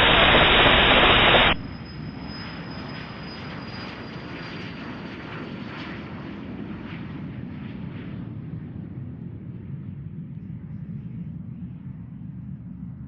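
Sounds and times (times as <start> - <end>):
jet engines during takeoff: 0.0 - 13.0.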